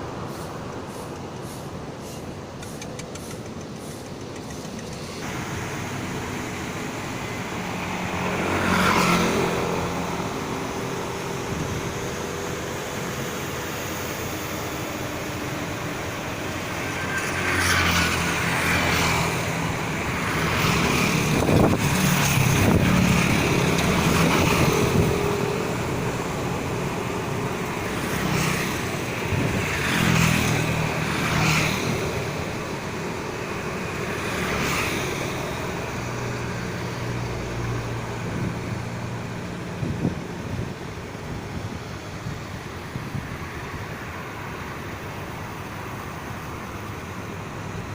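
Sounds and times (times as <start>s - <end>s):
vehicles passing by: 0.0s - 47.9s.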